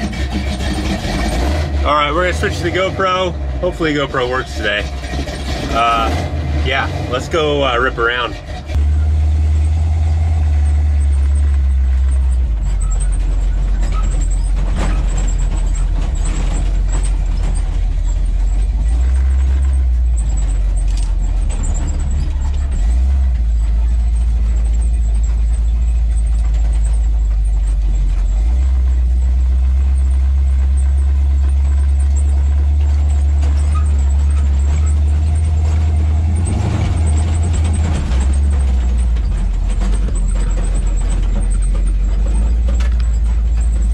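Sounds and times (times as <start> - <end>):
truck engine driving over rough ground: 0.0 - 43.9.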